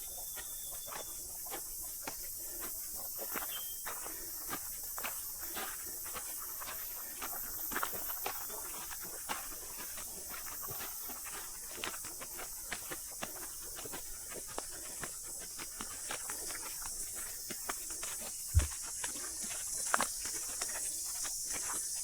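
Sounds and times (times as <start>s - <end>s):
cicadas chorus: 0.0s - 22.0s
footsteps on walking track: 0.0s - 22.0s.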